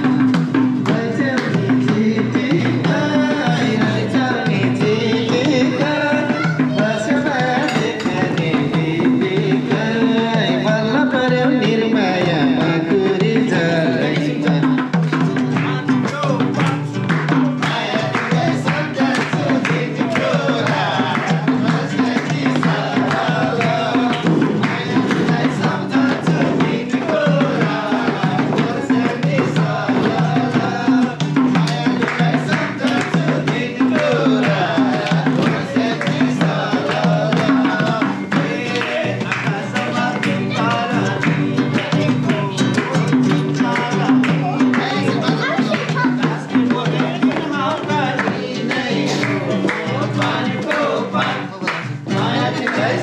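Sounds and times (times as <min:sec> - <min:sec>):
song with drum and bass: 0:00.0 - 0:53.0.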